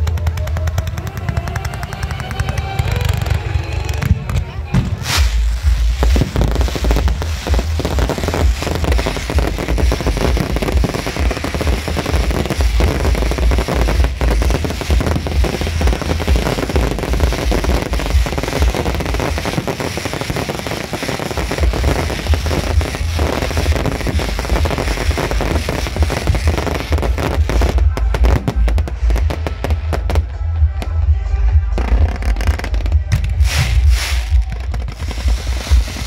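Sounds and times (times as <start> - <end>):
fireworks crackling and popping: 0.0 - 36.0
low rumble: 0.0 - 36.0.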